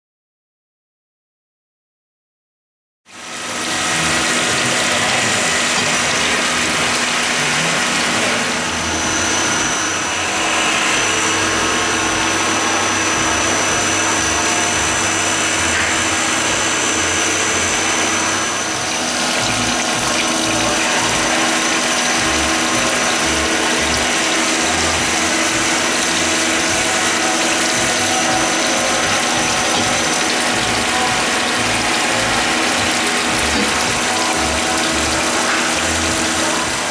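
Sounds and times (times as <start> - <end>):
lathe running: 3.1 - 36.9
thin high whine: 3.2 - 36.9.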